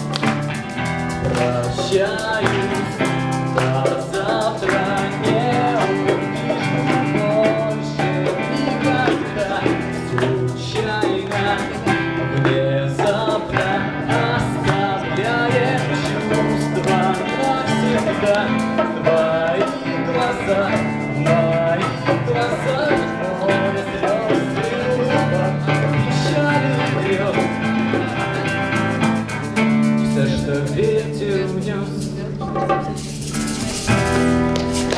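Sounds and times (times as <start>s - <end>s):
song with guitar: 0.0s - 34.9s.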